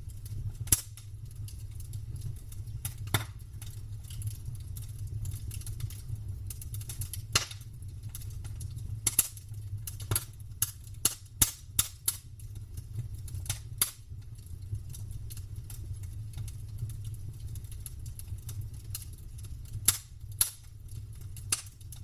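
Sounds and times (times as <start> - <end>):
burning wood snapping and popping: 0.0 - 22.0
low rumble of fire: 0.0 - 22.0.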